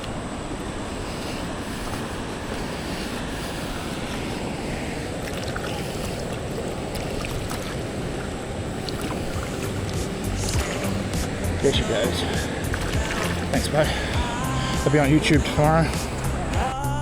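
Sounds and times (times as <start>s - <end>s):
wind buffeting microphone: 0.0s - 16.8s.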